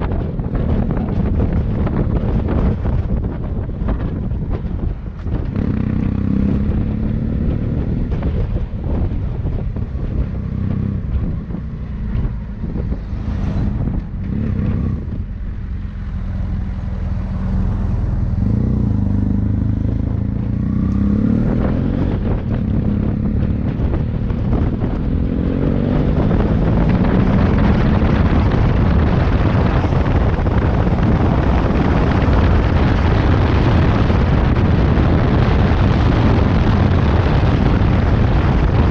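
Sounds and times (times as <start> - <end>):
motorcycle engine revving: 0.0 - 38.9
wind buffeting microphone: 0.0 - 38.9.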